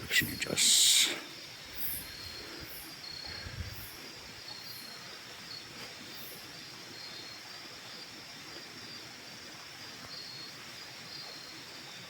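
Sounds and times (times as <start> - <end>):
insects trilling: 0.0 - 12.0
very high insect chirp: 0.0 - 12.0.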